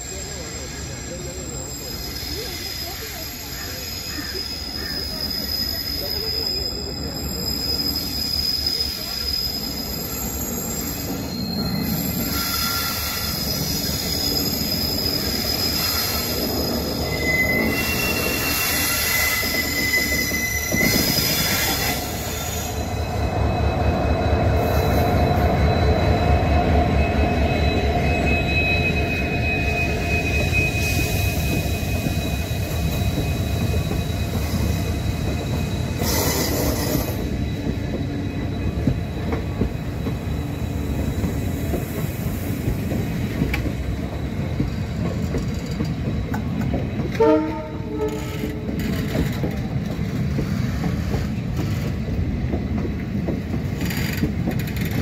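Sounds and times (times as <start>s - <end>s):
diesel locomotive passing: 0.0s - 55.0s
rhythmic rumble of train wheels: 0.0s - 55.0s
wheels squealing on rails: 0.0s - 55.0s.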